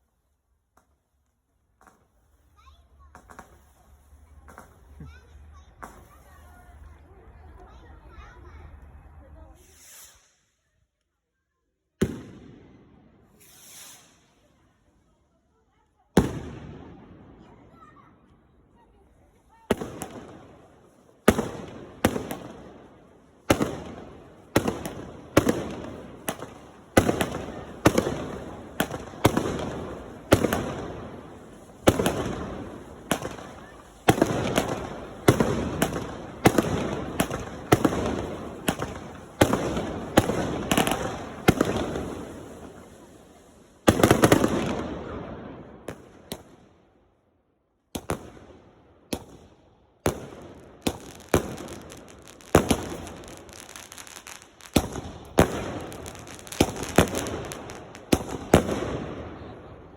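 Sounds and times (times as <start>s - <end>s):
fireworks bangs and crackle: 0.0s - 10.6s, 11.9s - 47.2s, 47.8s - 59.9s.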